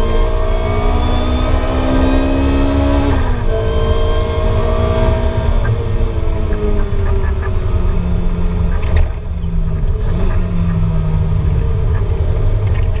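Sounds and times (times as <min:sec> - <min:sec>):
car engine slowing: 0:00.0 - 0:13.0
road and wind rumble: 0:00.0 - 0:13.0.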